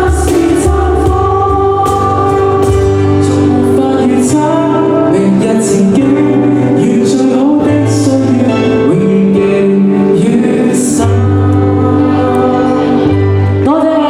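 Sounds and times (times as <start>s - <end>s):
live band with guitar and singing: 0.0s - 14.0s.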